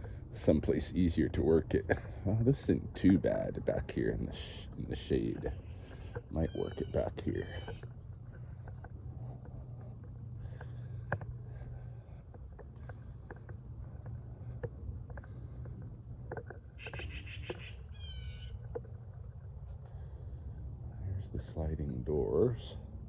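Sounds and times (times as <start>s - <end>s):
birds chirping: 0.0s - 23.0s
low steady rumble: 0.0s - 23.0s.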